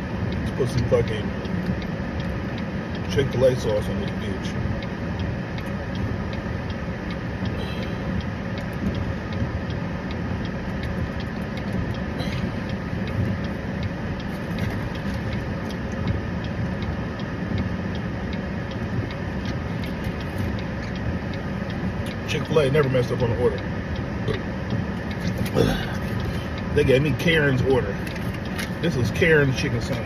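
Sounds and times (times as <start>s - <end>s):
even ticking: 0.0s - 30.0s
low rumble like idling vehicle: 0.0s - 30.0s.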